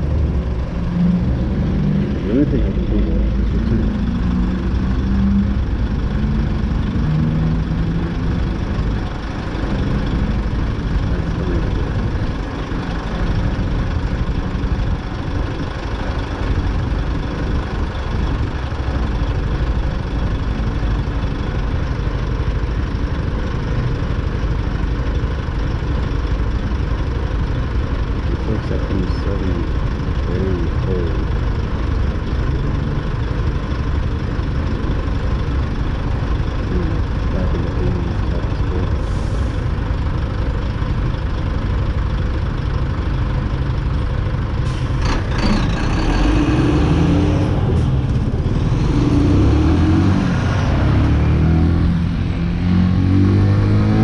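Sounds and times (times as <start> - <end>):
truck diesel engine idling: 0.0 - 50.1.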